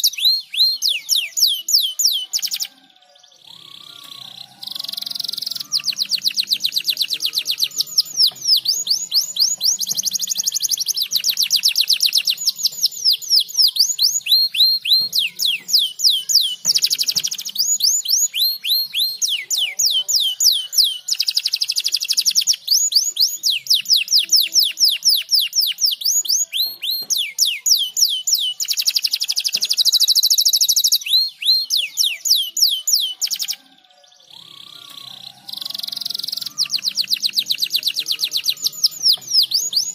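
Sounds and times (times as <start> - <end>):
canary singing in rapid trills: 0.0 - 39.9.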